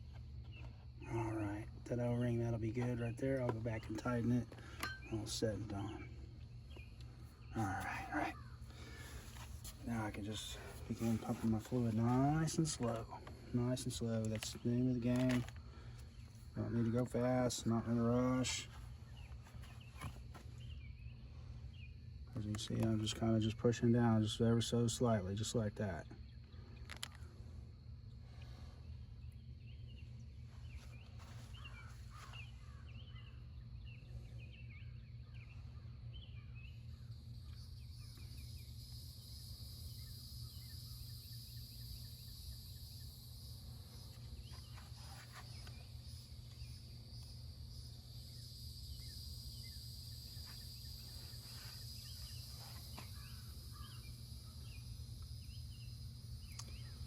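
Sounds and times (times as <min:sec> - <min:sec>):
birds chirping: 0:00.0 - 0:57.0
high insect drone: 0:00.0 - 0:57.0
insects trilling: 0:00.0 - 0:57.0.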